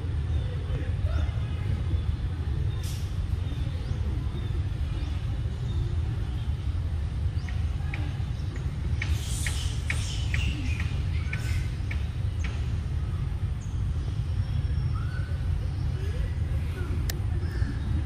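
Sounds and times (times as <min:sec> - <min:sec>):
birds chirping: 0:00.0 - 0:18.0
steady low rumble: 0:00.0 - 0:18.0.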